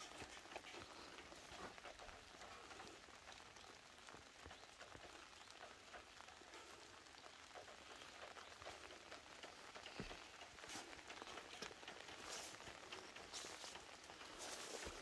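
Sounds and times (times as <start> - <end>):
rain hissing on plants: 0.0 - 15.0
raindrop ticks: 0.0 - 15.0.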